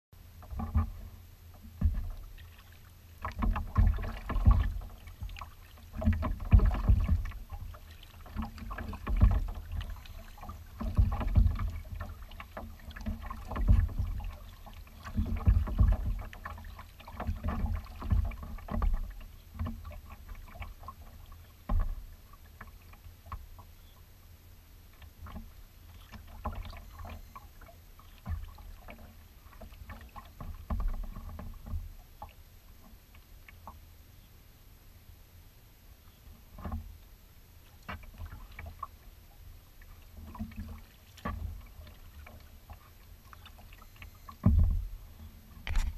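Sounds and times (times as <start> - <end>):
water slapping kayak hull: 0.2 - 34.1, 36.0 - 45.9
paddle strokes splashing: 0.3 - 24.1, 24.9 - 33.9, 37.6 - 45.9.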